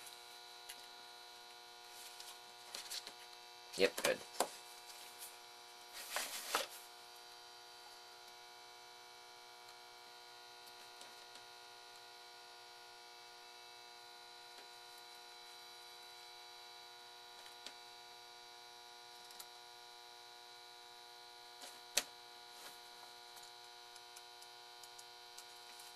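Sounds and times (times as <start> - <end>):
electrical hum: 0.0 - 25.9.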